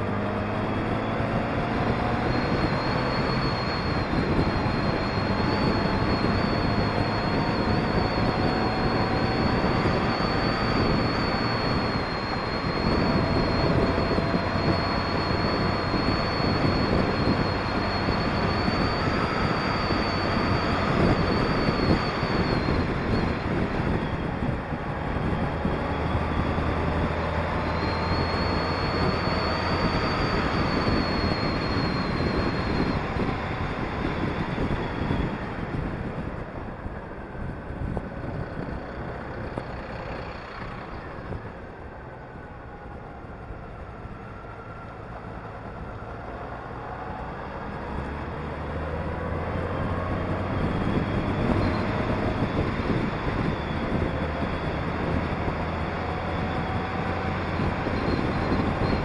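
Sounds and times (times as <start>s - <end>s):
faint engine whine: 0.0s - 59.0s
motorcycle riding: 0.0s - 59.0s.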